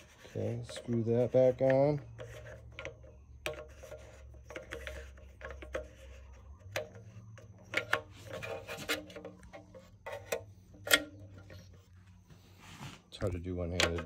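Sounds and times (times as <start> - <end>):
plastic threads scraping: 0.0 - 14.0.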